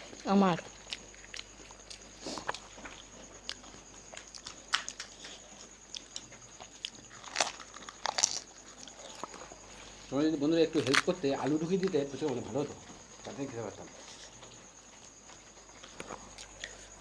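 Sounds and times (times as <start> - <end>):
chewing and crunching crisp snacks: 0.0 - 17.0.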